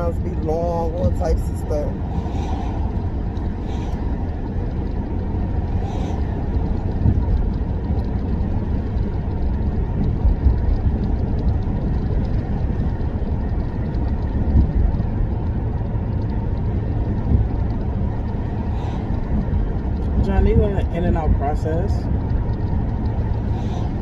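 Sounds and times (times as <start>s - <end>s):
road and engine rumble in car: 0.0s - 24.0s.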